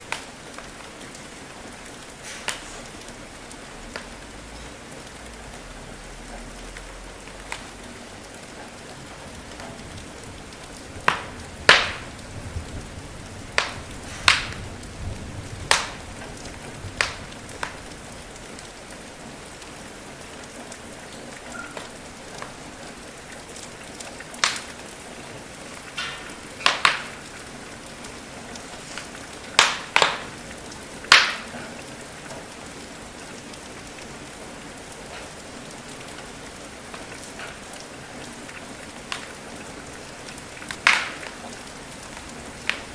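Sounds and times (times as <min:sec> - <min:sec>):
wood fire crackling and popping: 0:00.0 - 0:05.7, 0:06.3 - 0:42.9
steady rain falling: 0:00.0 - 0:42.9.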